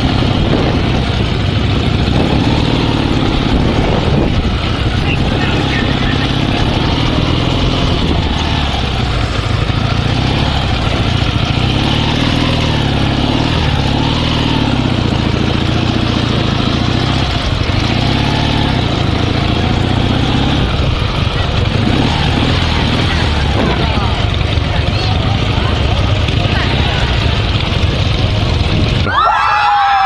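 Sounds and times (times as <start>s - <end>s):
motorcycle engine running: 0.0s - 29.4s.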